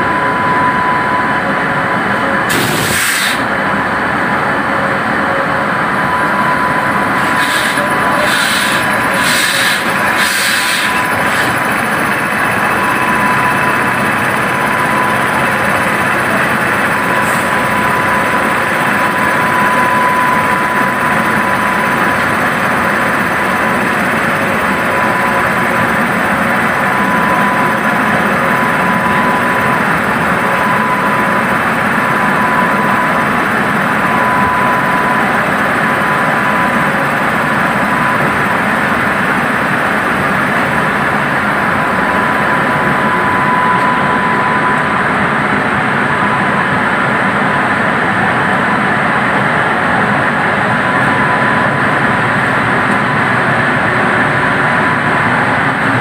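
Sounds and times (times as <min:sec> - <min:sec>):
high whine: 0:00.0 - 0:56.0
train wheels on rails: 0:01.6 - 0:56.0.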